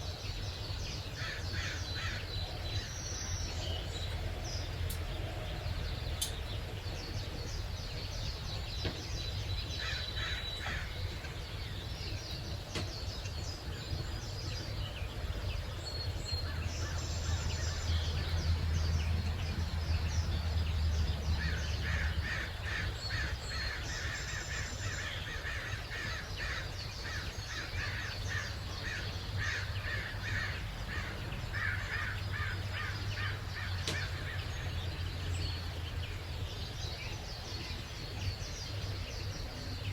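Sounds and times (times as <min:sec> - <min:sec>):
birds calling and singing: 0:00.0 - 0:39.9.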